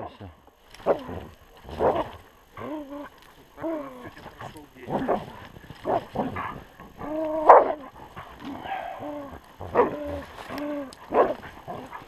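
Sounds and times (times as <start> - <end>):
dogs barking: 0.8 - 12.0.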